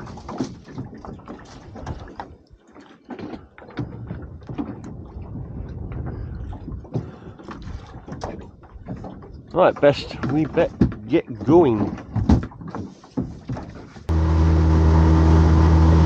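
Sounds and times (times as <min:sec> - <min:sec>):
waves lapping against boat hull: 0:00.0 - 0:14.2.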